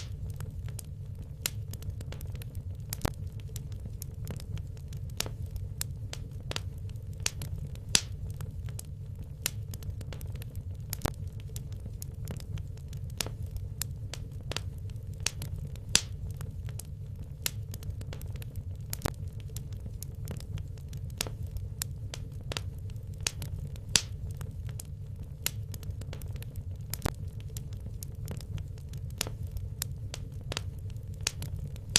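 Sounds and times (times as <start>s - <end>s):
fire crackling and popping: 0.0s - 31.9s
low rumble of flames: 0.0s - 31.9s.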